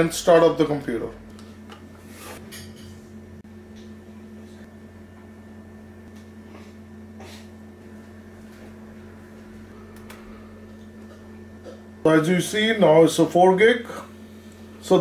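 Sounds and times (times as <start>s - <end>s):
laptop low hum: 0.0s - 15.0s.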